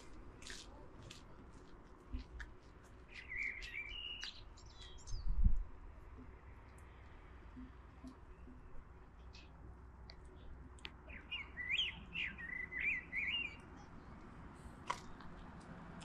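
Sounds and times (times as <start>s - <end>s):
faint background noise: 0.0s - 16.0s
songbird chirping: 2.1s - 15.7s.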